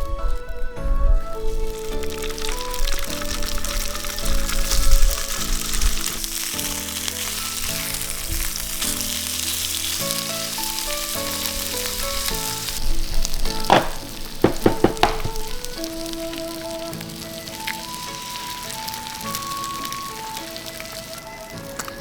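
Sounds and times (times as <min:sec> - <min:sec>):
food sizzling on hot plate: 0:01.2 - 0:22.0.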